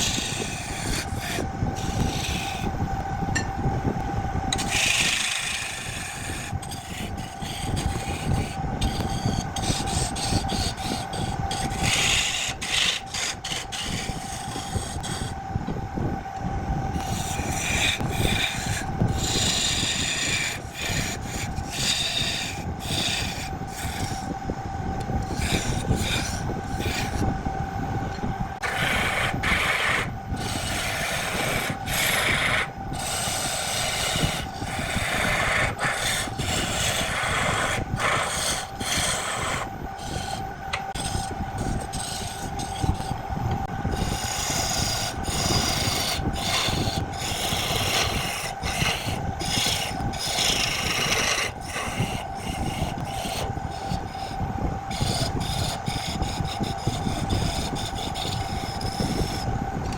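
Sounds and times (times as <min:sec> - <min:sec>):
tool scraping spinning wood: 0:00.0 - 0:59.9
wood lathe whine: 0:00.0 - 0:59.9.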